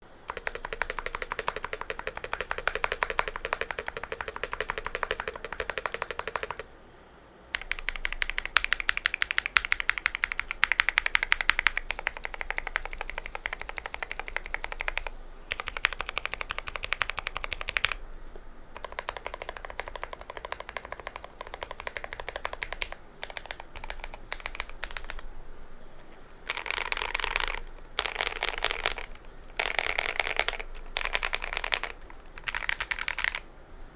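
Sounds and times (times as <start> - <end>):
mechanical keyboard typing: 0.0 - 6.7, 7.5 - 18.0, 18.7 - 25.3, 26.4 - 33.5.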